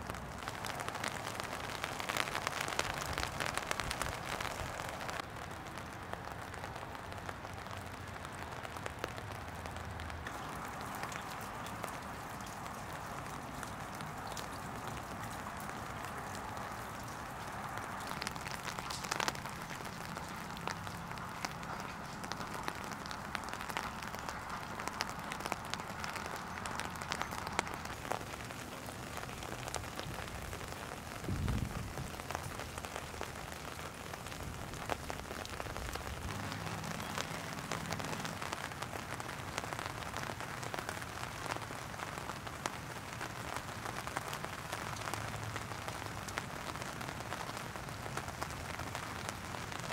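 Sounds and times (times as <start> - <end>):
gentle rain on wet ground: 0.0 - 49.9.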